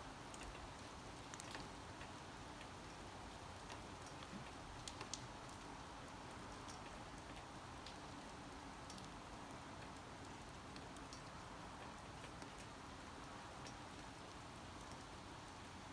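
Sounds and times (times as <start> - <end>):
light rain hiss: 0.0 - 15.9.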